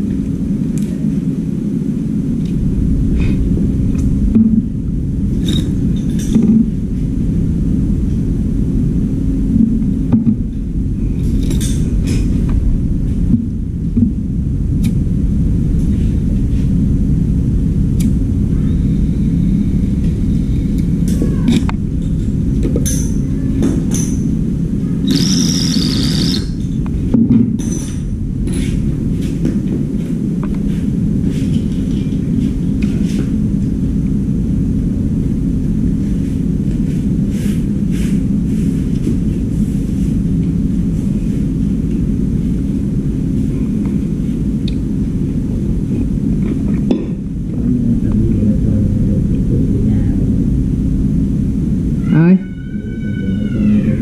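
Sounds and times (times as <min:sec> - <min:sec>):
low mechanical rumble: 0:00.0 - 0:54.0.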